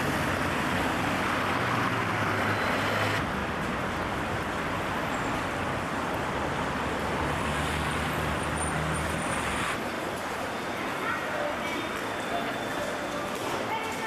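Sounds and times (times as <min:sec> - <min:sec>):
passing cars: 0:00.0 - 0:11.6.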